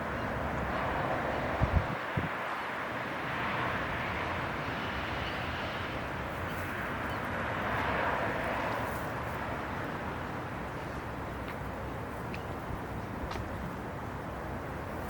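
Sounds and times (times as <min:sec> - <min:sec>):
outdoor background rumble and hiss: 0:00.0 - 0:15.0.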